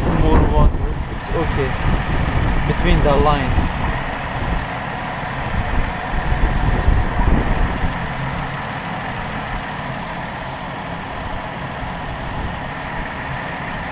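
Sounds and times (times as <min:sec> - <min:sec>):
car engine idling: 0:00.0 - 0:13.9
wind buffeting microphone: 0:00.0 - 0:13.9.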